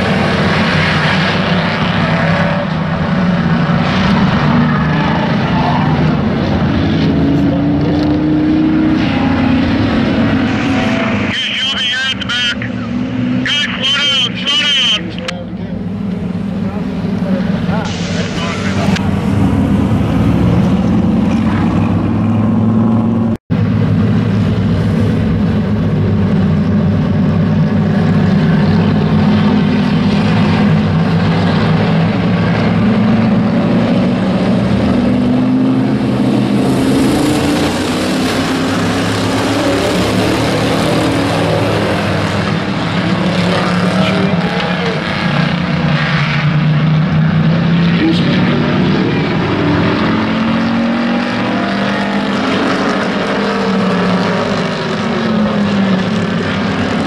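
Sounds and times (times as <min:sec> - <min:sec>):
race truck engines droning: 0:00.0 - 0:57.0.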